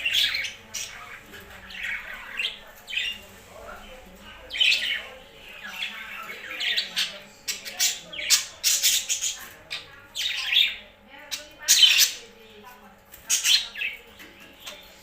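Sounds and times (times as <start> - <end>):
pet birds calling: 0.0 - 15.0.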